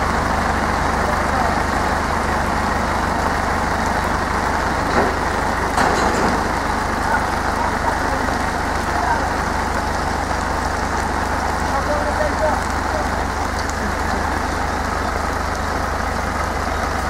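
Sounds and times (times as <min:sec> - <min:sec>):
rain falling: 0:00.0 - 0:17.0
tractor diesel engine idling: 0:00.0 - 0:17.0.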